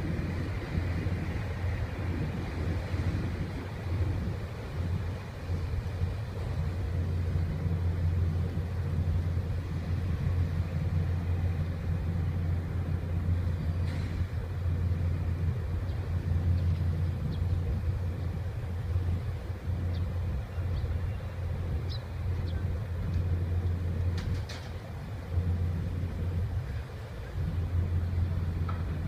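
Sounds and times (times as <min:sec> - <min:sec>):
ship engine low rumble: 0:00.0 - 0:29.0.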